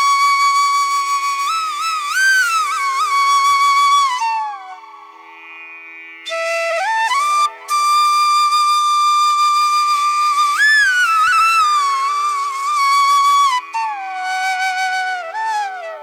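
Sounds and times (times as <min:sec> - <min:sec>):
flute slow melody: 0:00.0 - 0:05.1, 0:06.3 - 0:16.0.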